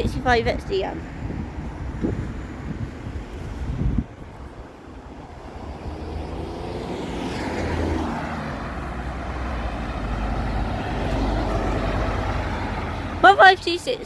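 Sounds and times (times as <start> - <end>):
bus driving past: 0.0 - 14.0.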